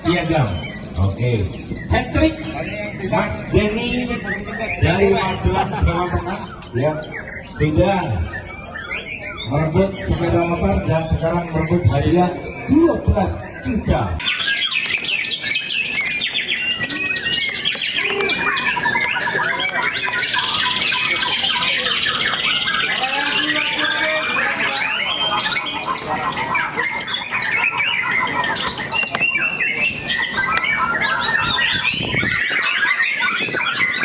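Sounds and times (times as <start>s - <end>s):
birds singing rapid whistles: 0.0s - 34.0s.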